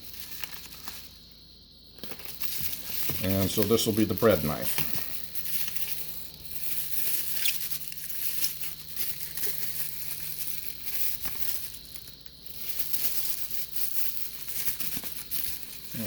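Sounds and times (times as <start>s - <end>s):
packaging crinkling and rustling: 0.0s - 1.3s, 2.0s - 16.0s.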